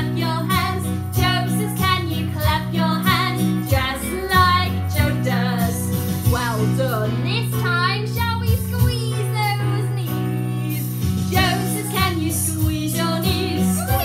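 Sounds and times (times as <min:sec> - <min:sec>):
recorded backing track: 0:00.0 - 0:14.0
woman singing children's song: 0:00.0 - 0:14.0.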